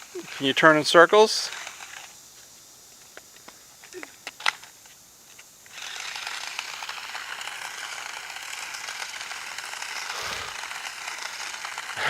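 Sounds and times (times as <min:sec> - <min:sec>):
toy car motors whirring: 0:00.0 - 0:12.0.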